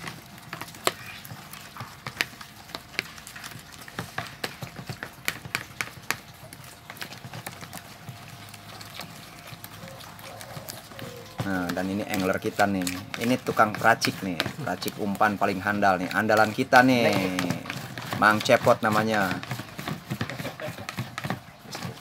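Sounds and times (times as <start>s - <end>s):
utensil scraping plastic bowl: 0.0s - 22.0s.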